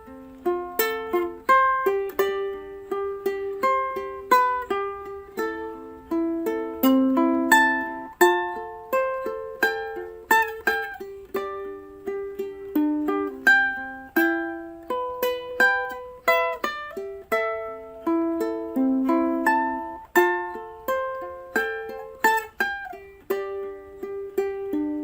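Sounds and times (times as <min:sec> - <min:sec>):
plucked-string melody: 0:00.0 - 0:25.0.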